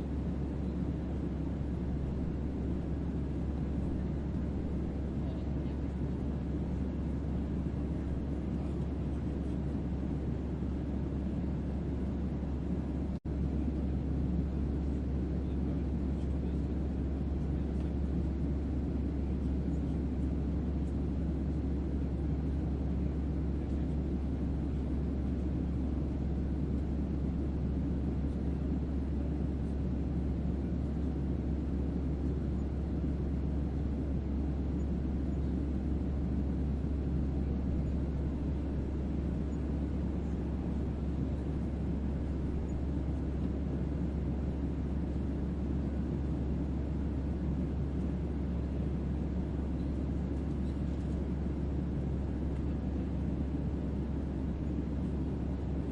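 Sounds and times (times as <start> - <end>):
low noise hum: 0.0 - 55.9.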